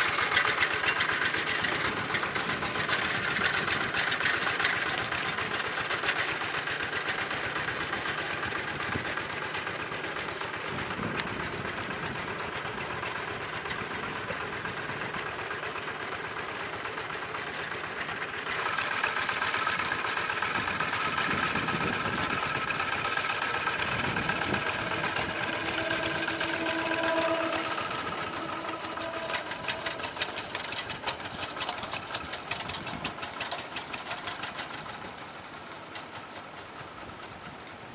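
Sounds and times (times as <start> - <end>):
diesel engine chugging: 0.0 - 37.9.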